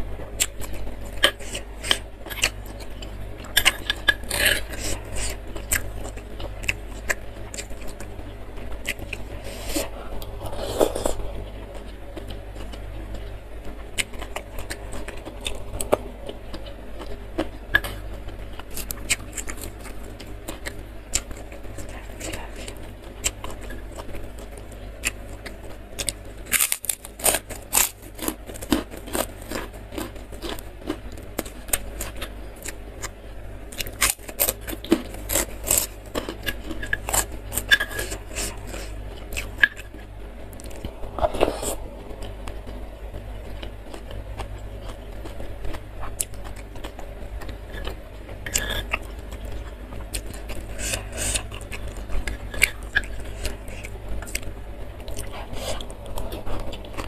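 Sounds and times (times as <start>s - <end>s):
crackers crunching: 0.0s - 57.0s
wet chewing: 0.4s - 57.0s.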